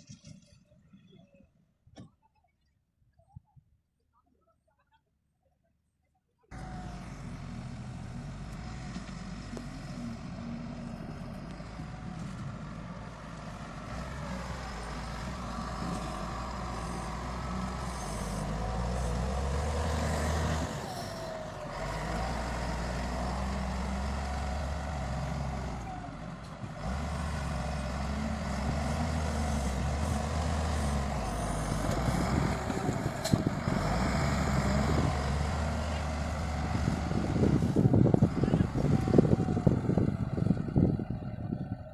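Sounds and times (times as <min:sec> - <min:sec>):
heavy diesel engine running: 0:06.5 - 0:41.9.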